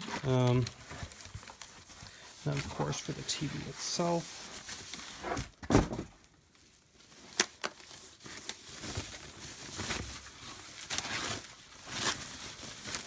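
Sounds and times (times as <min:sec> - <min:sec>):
foam packaging rustling: 0:00.0 - 0:13.0.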